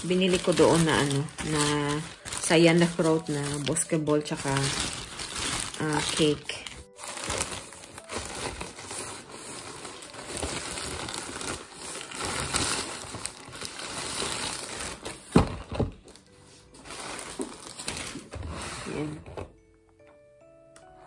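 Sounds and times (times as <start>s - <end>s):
packaging crinkling: 0.0s - 18.8s.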